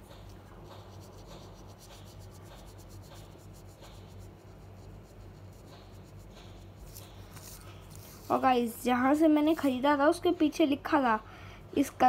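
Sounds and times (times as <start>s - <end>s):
scratchy colouring strokes on paper: 0.0s - 10.1s
low steady hum: 0.0s - 12.0s.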